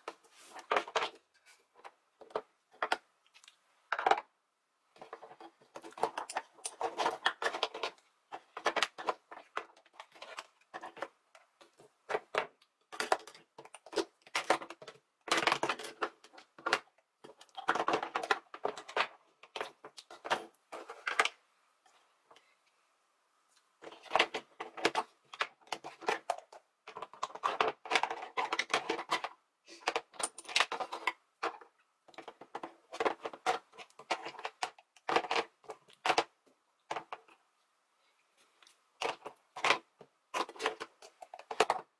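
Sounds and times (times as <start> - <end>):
plastic cosmetic cases clattering: 0.0 - 3.1, 3.9 - 21.4, 23.8 - 37.4, 39.0 - 41.9.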